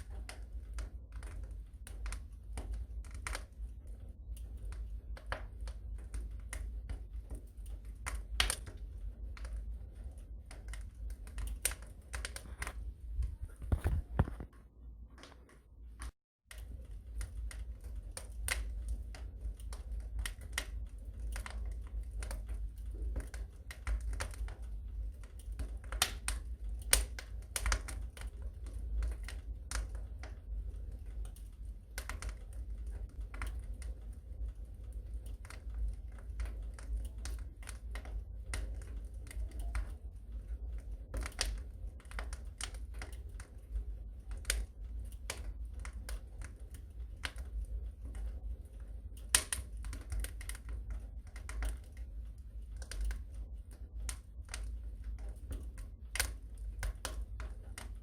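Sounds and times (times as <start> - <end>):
low rumble of flames: 0.0 - 58.0
wood fire crackling: 0.0 - 58.0.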